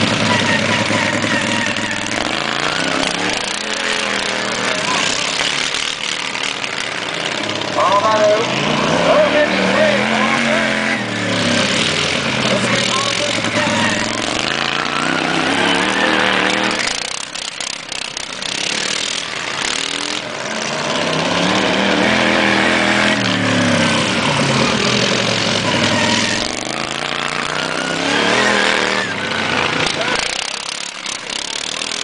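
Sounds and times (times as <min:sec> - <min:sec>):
racing lawn mower engines revving: 0:00.0 - 0:32.0.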